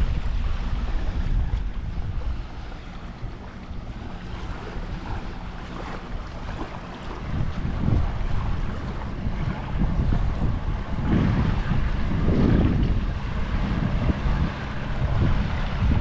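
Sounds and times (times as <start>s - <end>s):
small waves on the shore: 0.0s - 16.0s
wind buffeting the microphone: 0.0s - 16.0s.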